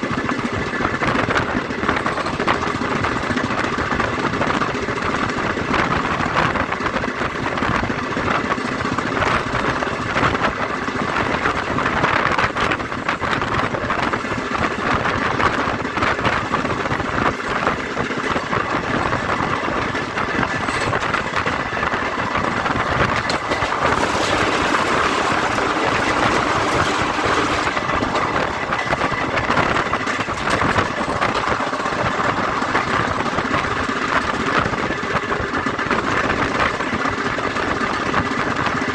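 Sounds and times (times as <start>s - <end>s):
vehicle running noise: 0.0s - 38.9s.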